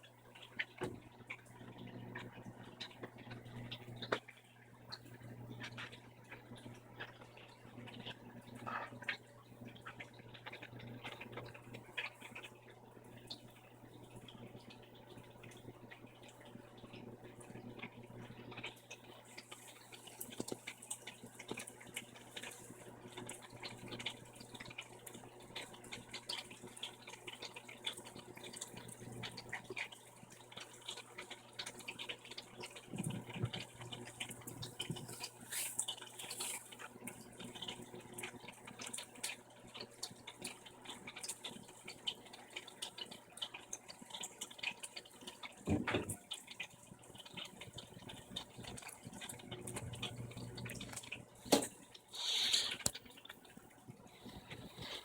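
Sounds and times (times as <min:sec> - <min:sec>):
drain pump humming: 0:00.1 - 0:55.0.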